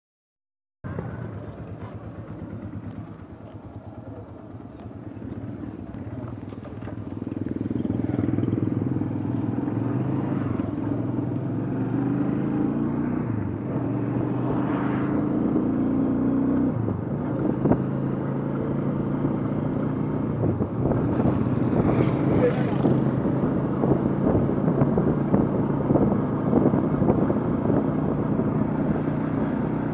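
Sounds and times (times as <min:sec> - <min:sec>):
motorcycle engine running: 0:00.9 - 0:29.9.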